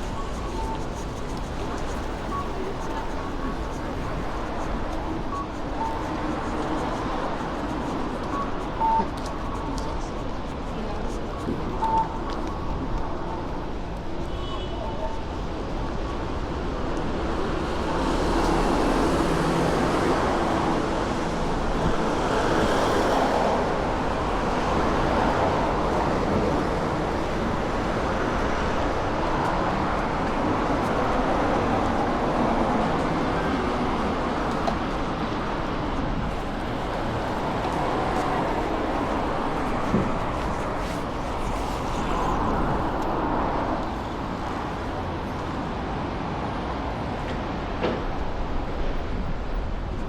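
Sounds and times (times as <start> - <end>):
city street traffic: 0.0 - 50.0.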